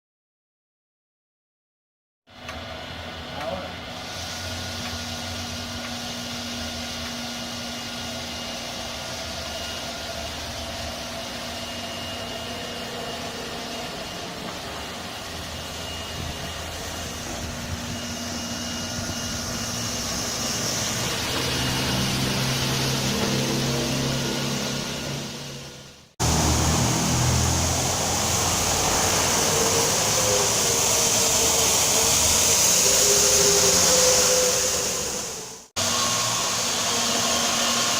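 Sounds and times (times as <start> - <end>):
floor scrubber machine hum: 2.4 - 37.9
steady machine tones: 2.4 - 37.9
machine hiss: 3.4 - 37.9.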